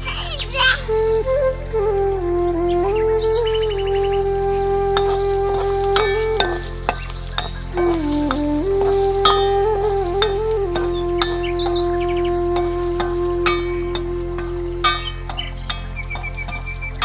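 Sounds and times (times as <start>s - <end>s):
flute-like melody: 0.0s - 17.0s
steady hiss: 3.2s - 17.0s.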